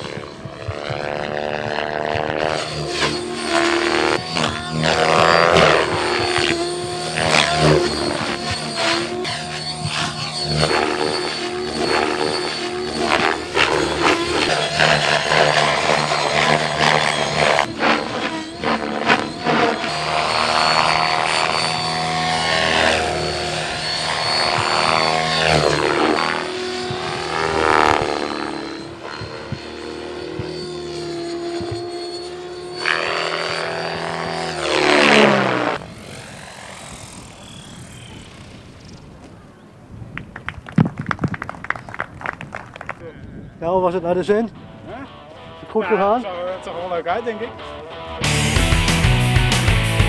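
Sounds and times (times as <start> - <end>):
model helicopter rotor whine: 0.0 - 40.2, 41.0 - 50.0.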